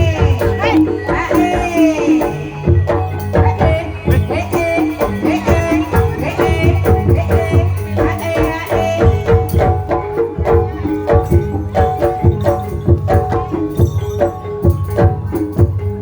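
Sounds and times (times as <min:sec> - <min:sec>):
hand drum beats: 0:00.0 - 0:16.0.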